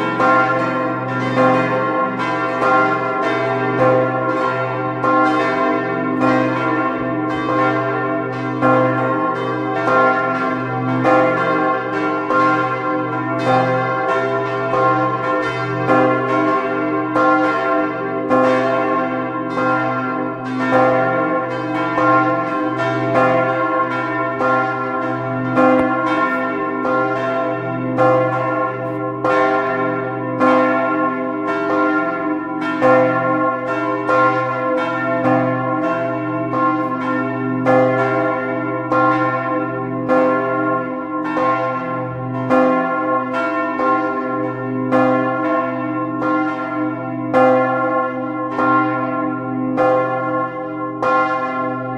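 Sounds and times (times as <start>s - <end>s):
church bells pealing: 0.0s - 51.9s.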